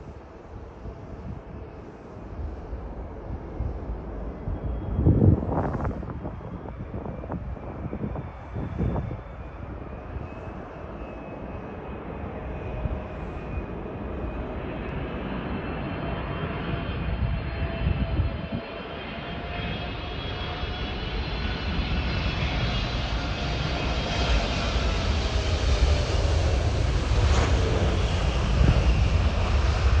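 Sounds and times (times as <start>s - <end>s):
jet engines whining: 0.1s - 30.0s.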